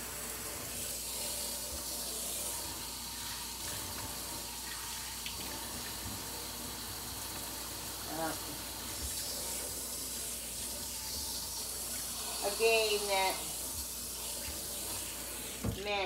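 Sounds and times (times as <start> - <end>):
faucet running into sink: 0.0 - 16.0.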